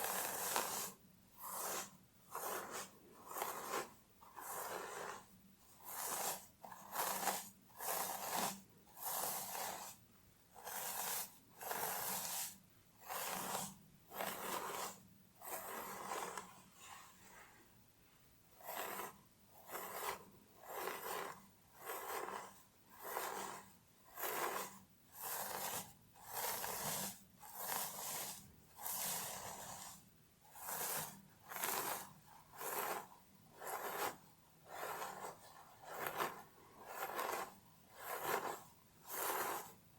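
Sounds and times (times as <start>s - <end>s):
fingernails scratching hair: 0.0s - 5.2s, 5.8s - 10.0s, 10.6s - 16.6s, 18.6s - 30.0s, 30.6s - 39.8s.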